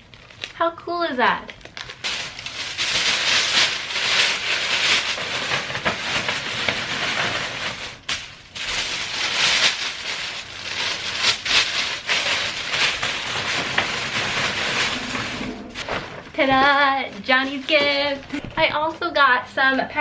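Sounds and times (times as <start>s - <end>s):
wrapping paper rustling: 0.0s - 19.3s.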